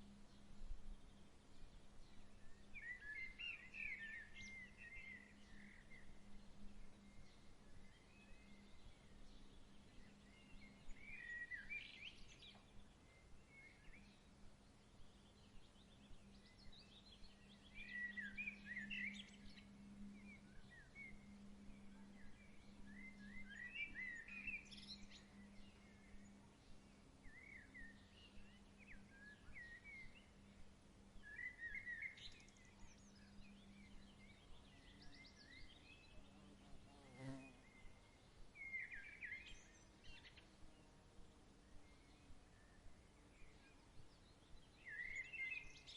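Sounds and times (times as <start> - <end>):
faint birdsong: 0.0 - 45.9
low steady hum: 0.0 - 45.9.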